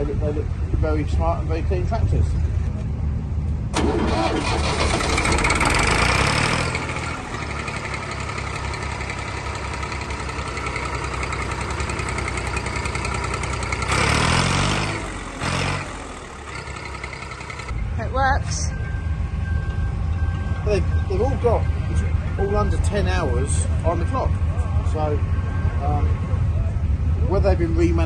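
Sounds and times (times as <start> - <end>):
diesel tractor engine: 0.0 - 28.0.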